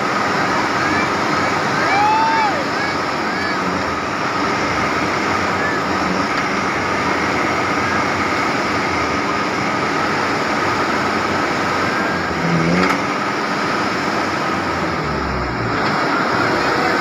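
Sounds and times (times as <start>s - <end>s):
rushing noise: 0.0s - 17.0s
vehicle engine running: 0.0s - 17.0s.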